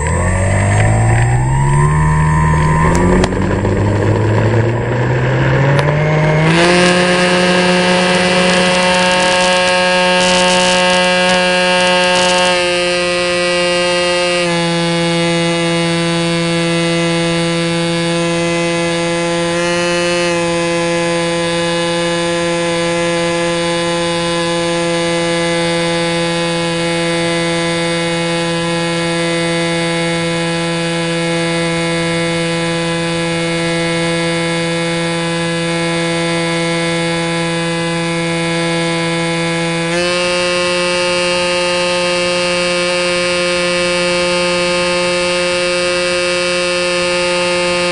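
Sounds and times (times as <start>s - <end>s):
electric motor and propeller whining: 0.0s - 47.9s.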